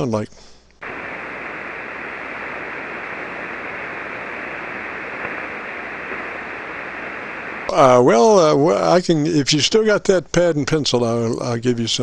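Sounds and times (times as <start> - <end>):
radio receiver hiss: 0.0 - 9.6.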